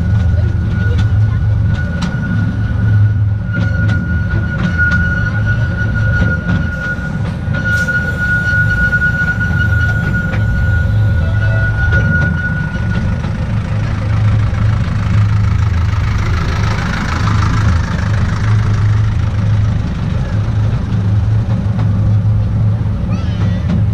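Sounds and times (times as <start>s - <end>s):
high wheel squeal: 0.0s - 21.2s
train rumbling: 0.0s - 23.9s
wheels clicking over rails: 0.0s - 23.9s.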